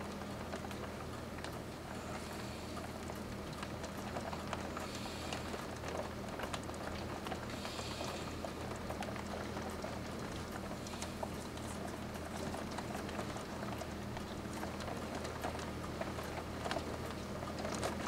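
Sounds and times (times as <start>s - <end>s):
steady rain: 0.0s - 18.0s
raindrops splashing on hard surfaces: 2.8s - 18.0s.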